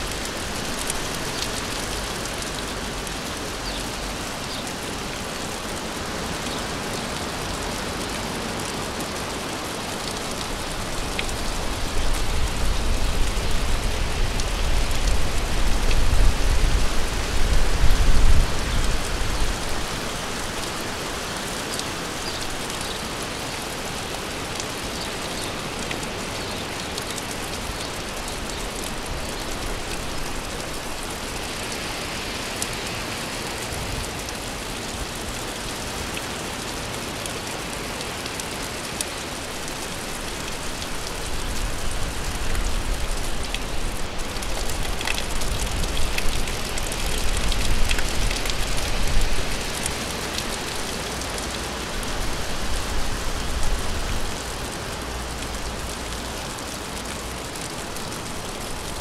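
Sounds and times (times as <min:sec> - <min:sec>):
raindrops ticking: 0:00.0 - 0:16.9, 0:17.8 - 0:59.0
steady rain falling: 0:00.0 - 0:59.0.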